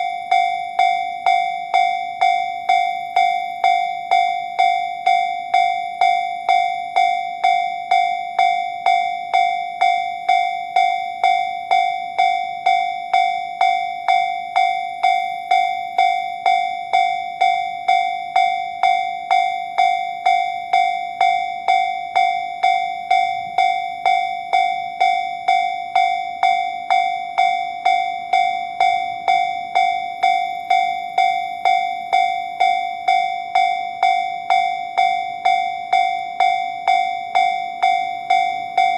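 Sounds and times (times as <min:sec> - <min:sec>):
level crossing warning bell ringing: 0:00.0 - 0:38.9.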